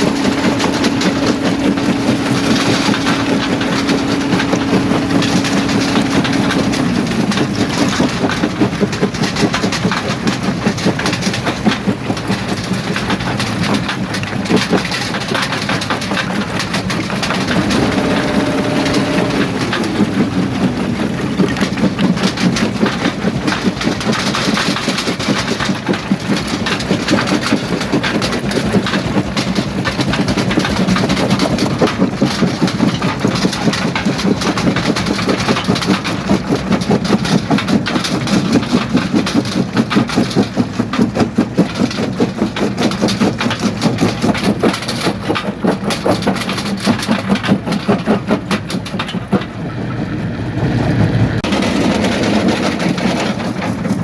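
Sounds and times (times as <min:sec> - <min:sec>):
rocks clattering and grinding: 0:00.0 - 0:50.0, 0:50.8 - 0:54.0
diesel engine hum: 0:00.0 - 0:54.0.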